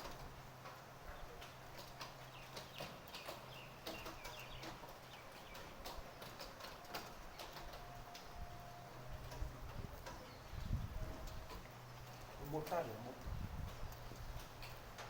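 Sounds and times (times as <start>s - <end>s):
raindrops tapping on hard surfaces: 0.0s - 15.0s
soft rain hiss: 0.0s - 15.0s.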